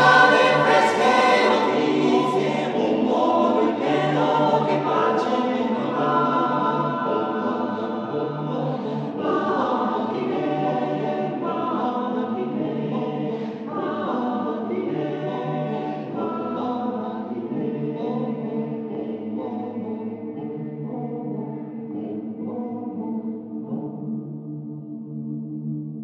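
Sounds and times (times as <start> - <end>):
choir singing in harmony: 0.0 - 24.4.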